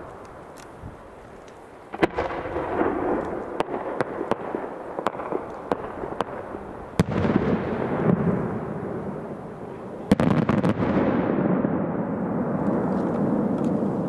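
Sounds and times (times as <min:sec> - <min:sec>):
fireworks bangs: 0:01.9 - 0:14.0.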